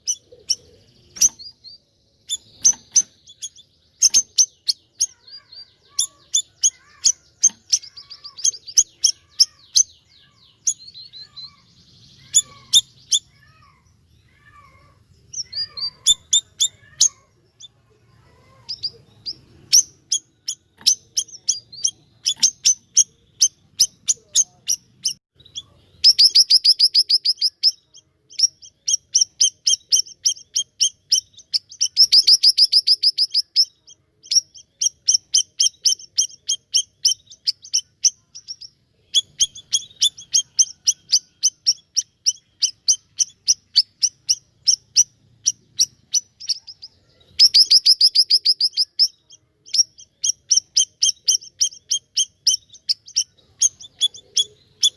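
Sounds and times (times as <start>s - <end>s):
songbird high chirps: 0.0s - 54.9s.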